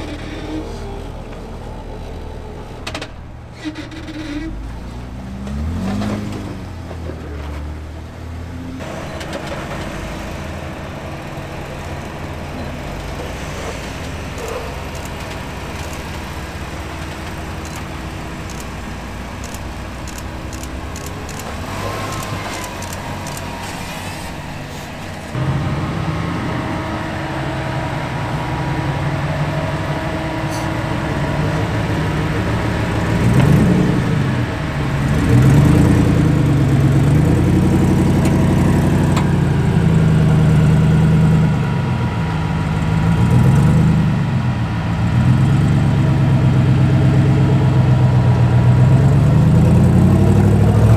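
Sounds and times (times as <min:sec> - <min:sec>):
car engine running: 0:00.0 - 0:50.9.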